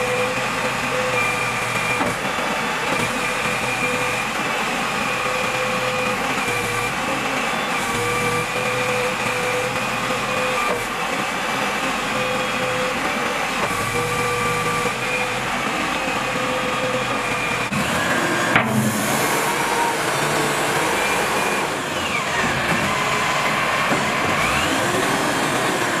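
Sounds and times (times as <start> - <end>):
diesel engine running: 0.0 - 26.0
steady hydraulic whine: 0.0 - 26.0.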